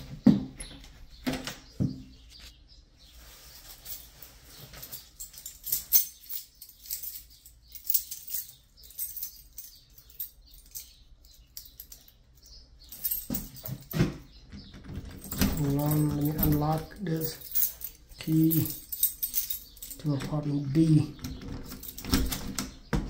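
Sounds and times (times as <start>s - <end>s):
keys jingling in a lock: 3.7s - 22.9s.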